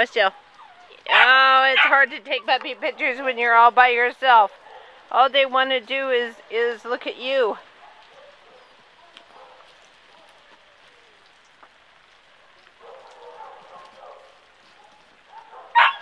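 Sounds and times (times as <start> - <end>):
raindrops ticking: 0.0 - 16.0
steady rain hiss: 0.0 - 16.0.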